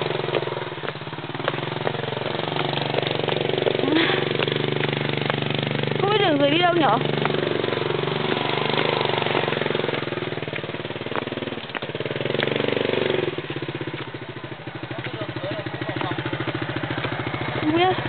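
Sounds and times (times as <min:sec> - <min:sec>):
small motorcycle engine revving: 0:00.0 - 0:18.0.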